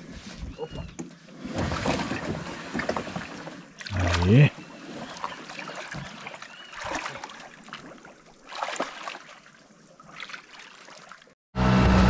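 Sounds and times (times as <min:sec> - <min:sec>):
river water sloshing and splashing: 0:00.0 - 0:11.4.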